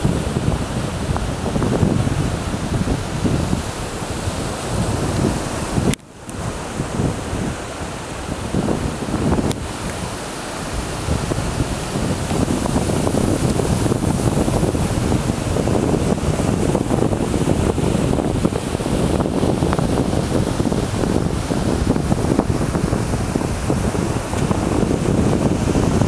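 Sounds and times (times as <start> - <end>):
sea waves on shore: 0.0 - 26.0
wind buffeting microphone: 0.0 - 26.0.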